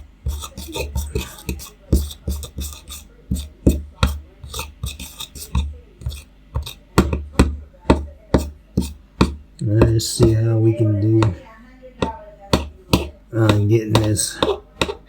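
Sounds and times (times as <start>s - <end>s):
mixing tool scraping and tapping: 0.0s - 15.0s.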